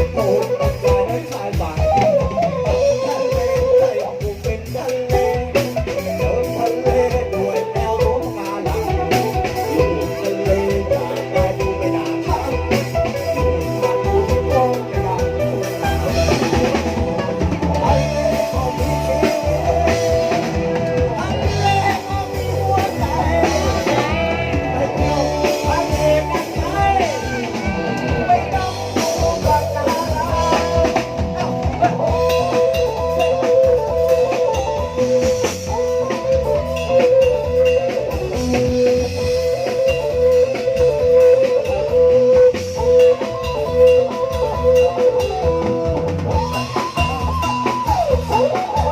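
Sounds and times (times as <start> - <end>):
brass band playing: 0.0 - 48.9
steady drum beat: 0.0 - 48.9.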